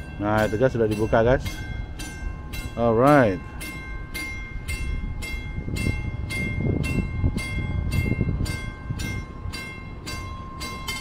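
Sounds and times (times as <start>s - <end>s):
warning bell ringing: 0.0s - 11.0s.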